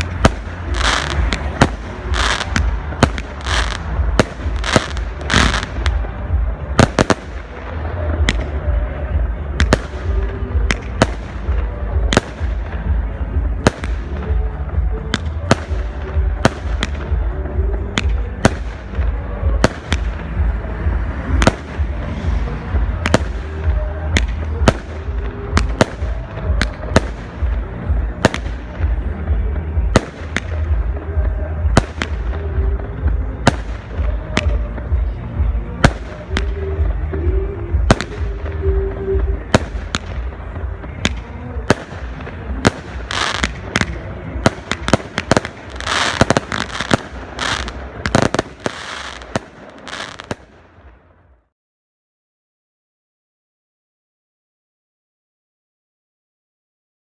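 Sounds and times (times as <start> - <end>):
fireworks crackling: 0.0 - 51.1.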